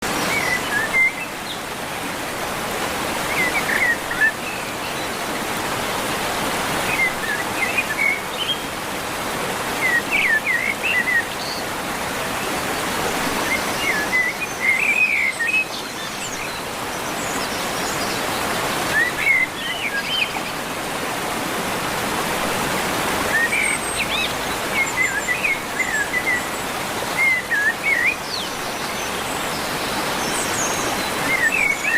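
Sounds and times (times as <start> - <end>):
birds chirping: 0.0 - 31.9.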